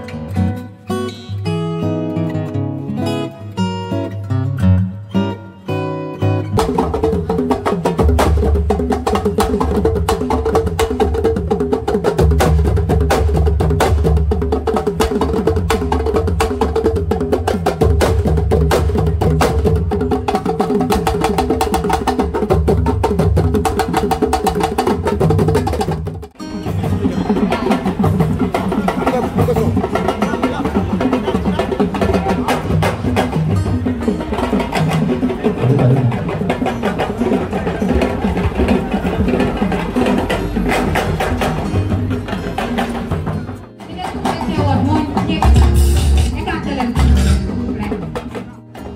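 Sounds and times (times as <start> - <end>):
djembe drums playing: 6.6 - 48.9.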